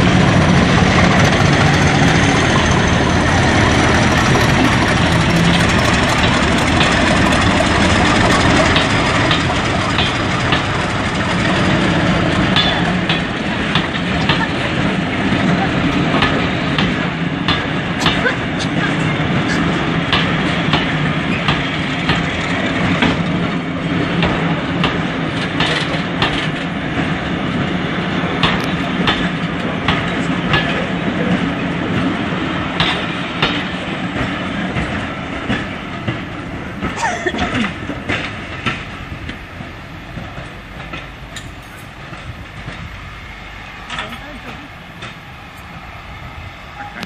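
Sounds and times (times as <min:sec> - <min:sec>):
train wheels clacking over rail joints: 0:00.0 - 0:45.8.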